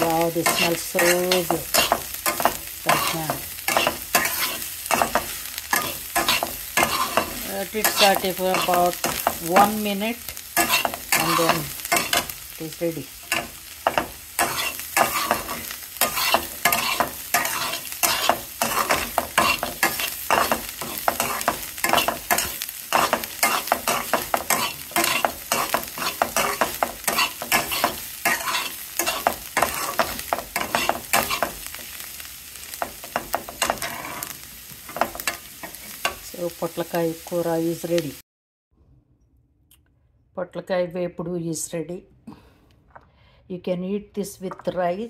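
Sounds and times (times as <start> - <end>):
metal spatula scraping a pan: 0.0 - 36.3
light sizzle: 0.0 - 38.2.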